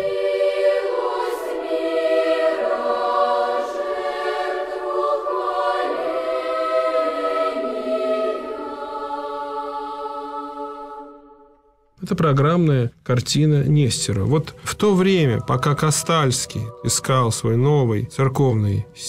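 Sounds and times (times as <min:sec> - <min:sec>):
choir singing unaccompanied: 0:00.0 - 0:11.8, 0:14.2 - 0:19.0.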